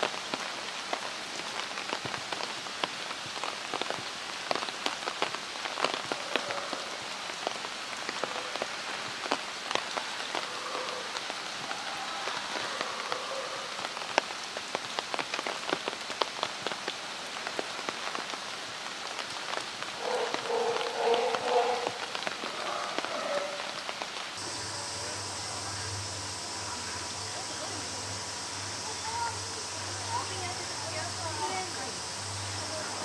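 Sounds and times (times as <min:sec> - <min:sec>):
raindrops ticking on surfaces: 0:00.0 - 0:33.0
steady rainfall: 0:00.0 - 0:33.0.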